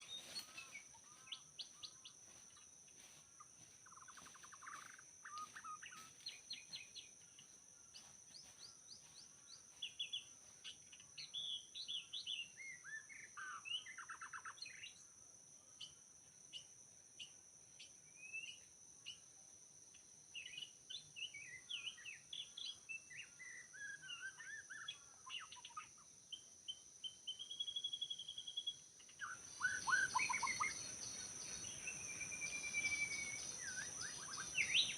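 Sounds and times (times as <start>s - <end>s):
bird singing: 0.0s - 34.9s.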